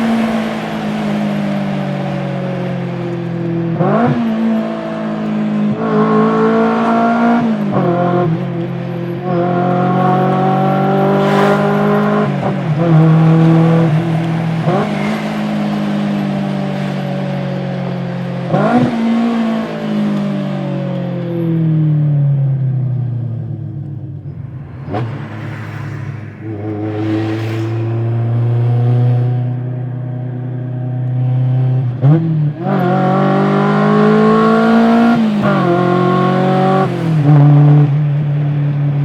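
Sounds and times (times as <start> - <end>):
car engine running and revving: 0.0 - 39.0.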